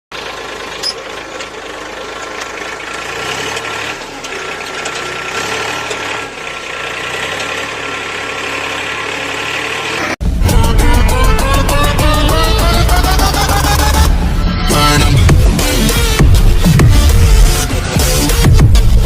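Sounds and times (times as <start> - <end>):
mini tractor engine drone: 0.1 - 18.5.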